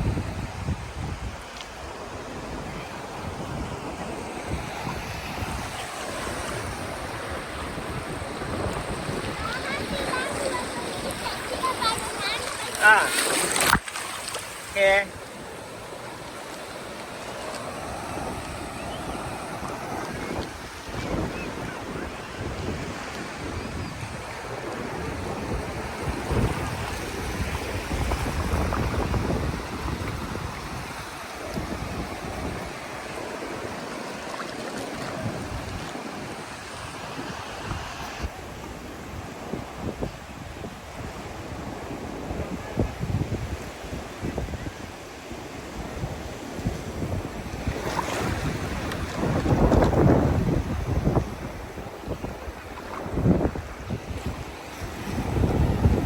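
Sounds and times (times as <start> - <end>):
sea waves washing in shallows: 0.0 - 56.0
wind buffeting microphone: 0.0 - 56.0.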